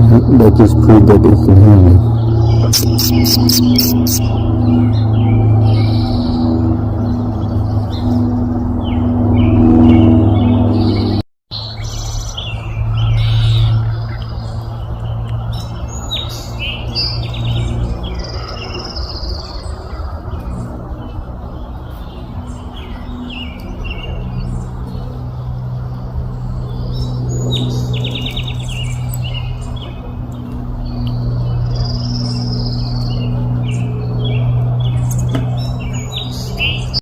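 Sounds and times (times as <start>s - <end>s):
songbirds chirping and twittering: 0.0s - 37.0s
steady low hum: 0.0s - 37.0s.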